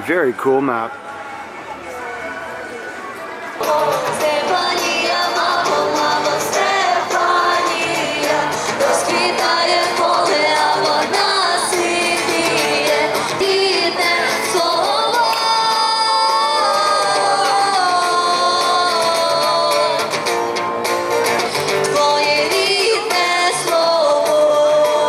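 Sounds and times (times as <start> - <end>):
voices singing over accompaniment: 2.3 - 25.0.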